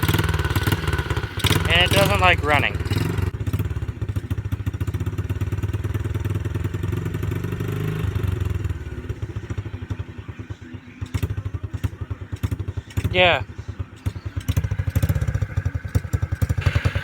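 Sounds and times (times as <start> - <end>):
small engine running rough: 0.0 - 17.0.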